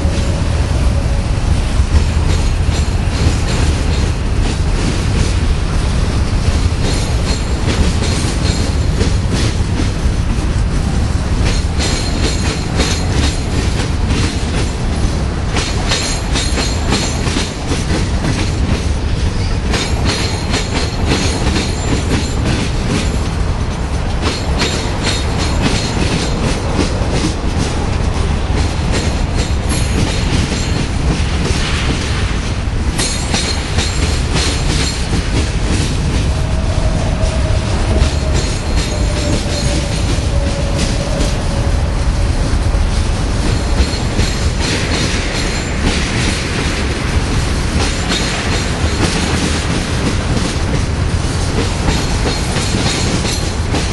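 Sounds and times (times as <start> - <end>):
freight train rumbling past: 0.0 - 53.9
steel wheels clacking on rails: 0.0 - 53.9.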